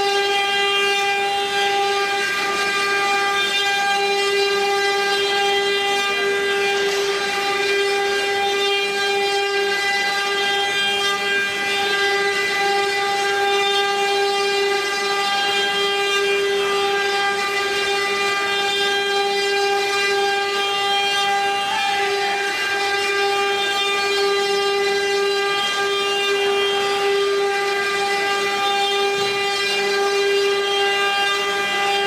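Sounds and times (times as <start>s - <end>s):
router spindles whining: 0.0s - 32.0s.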